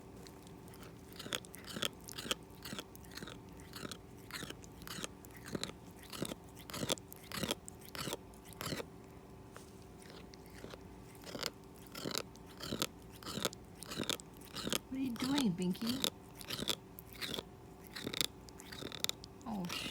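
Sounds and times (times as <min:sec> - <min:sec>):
cat grinding its teeth: 0:00.0 - 0:19.9.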